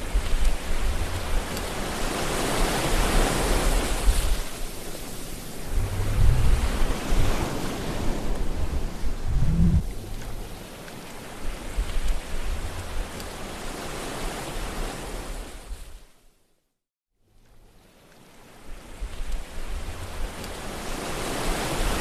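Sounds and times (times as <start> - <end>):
ocean surf: 0.0 - 15.9, 18.2 - 22.0
wind rumbling on microphone: 0.0 - 16.0, 18.8 - 22.0.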